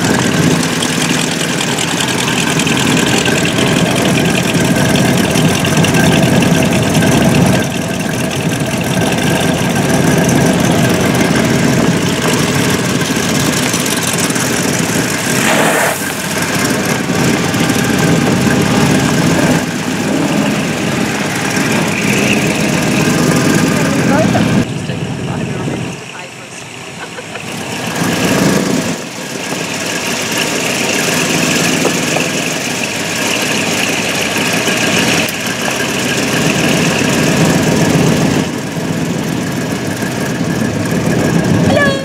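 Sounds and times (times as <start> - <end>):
cars pulling away on gravel: 0.0 - 41.9
car engines idling rough: 0.0 - 42.0.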